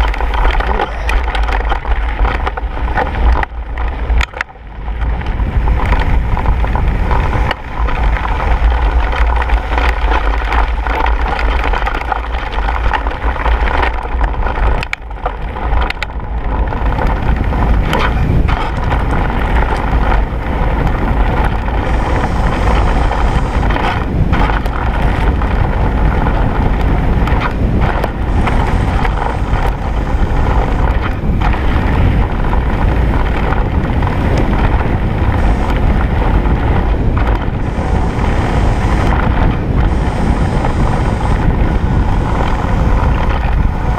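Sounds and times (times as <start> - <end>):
bike rattling and knocking: 0.0 - 43.9
bike tyres rumbling on gravel: 0.0 - 43.9
wind buffeting microphone: 0.0 - 43.9.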